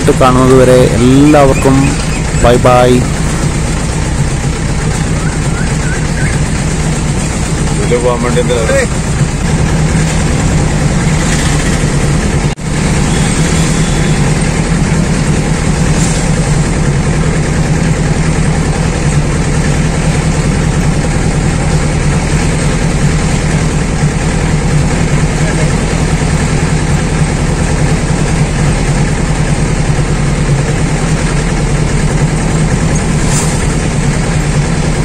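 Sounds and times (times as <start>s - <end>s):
engine humming steadily: 0.0s - 35.0s.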